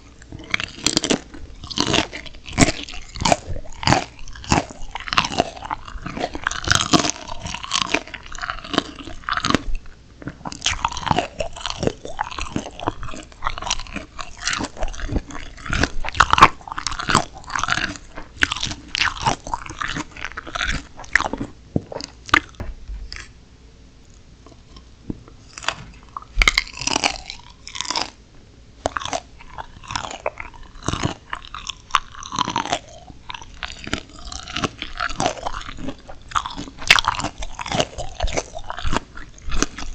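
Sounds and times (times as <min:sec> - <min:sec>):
crunchy chewing: 0:00.0 - 0:23.4, 0:24.1 - 0:28.2, 0:28.8 - 0:39.9.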